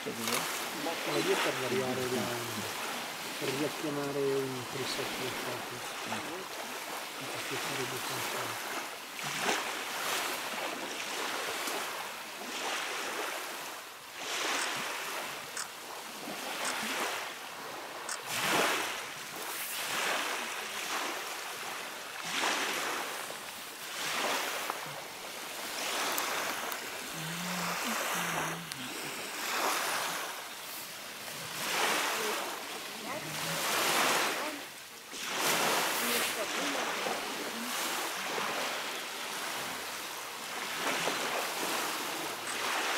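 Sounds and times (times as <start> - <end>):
waves washing onto pebble shore: 0.0 - 42.9.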